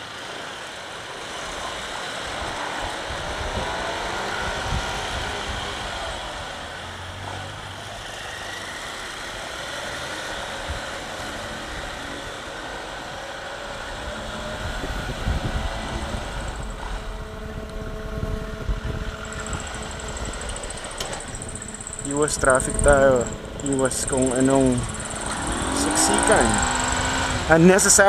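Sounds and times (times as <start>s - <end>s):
motorcycle engine running: 0.0s - 28.0s
traffic: 0.0s - 28.0s.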